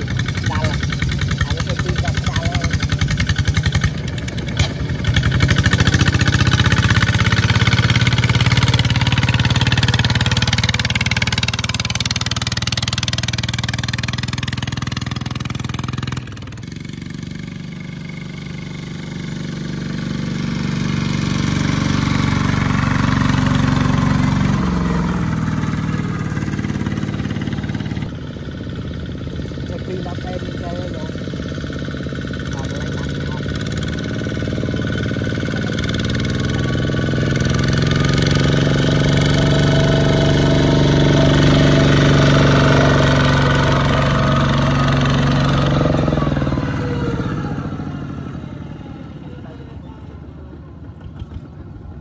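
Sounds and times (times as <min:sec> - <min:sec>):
diesel tractor engine running: 0:00.0 - 0:52.0.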